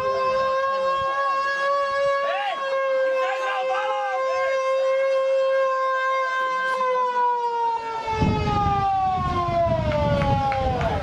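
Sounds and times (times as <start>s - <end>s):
siren winding down: 0.0s - 11.0s.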